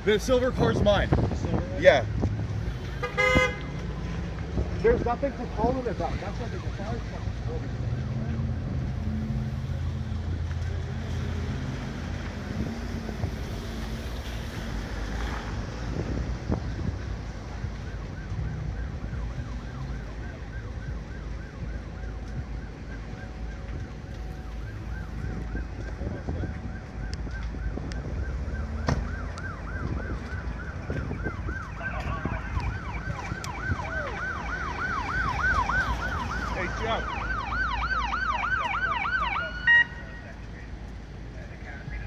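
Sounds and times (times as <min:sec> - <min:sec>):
emergency sirens yelping: 0:00.0 - 0:42.0
higher siren: 0:02.6 - 0:40.4.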